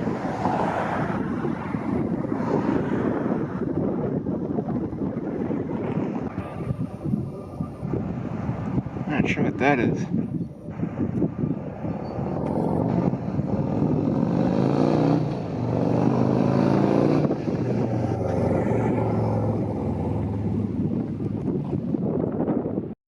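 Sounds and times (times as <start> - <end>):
vehicle engine running: 3.2 - 22.3.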